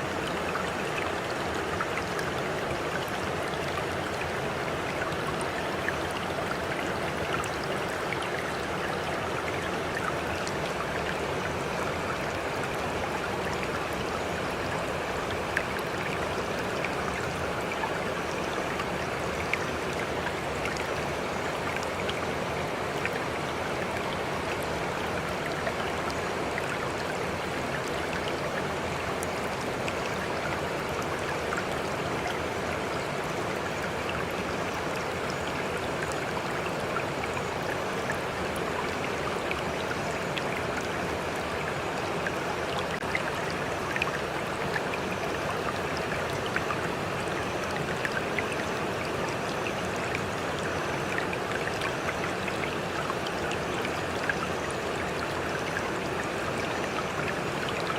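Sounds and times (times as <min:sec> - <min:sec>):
running water flowing: 0:00.0 - 0:57.9.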